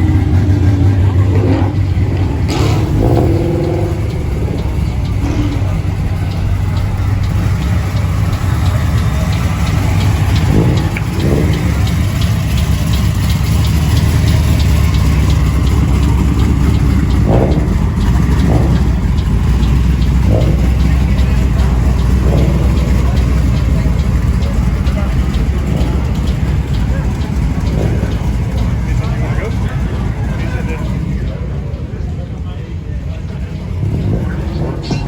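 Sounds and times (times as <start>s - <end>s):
car engine idling: 0.0s - 35.0s
crowd noise: 0.0s - 35.0s.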